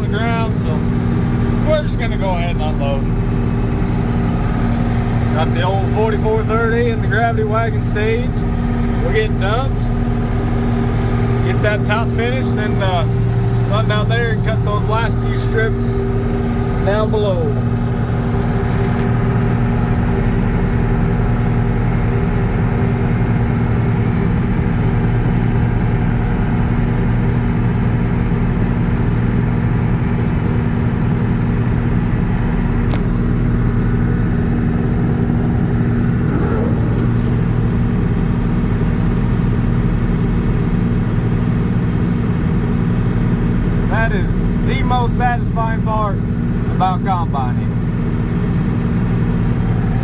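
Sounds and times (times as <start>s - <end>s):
diesel engine droning: 0.0s - 50.0s.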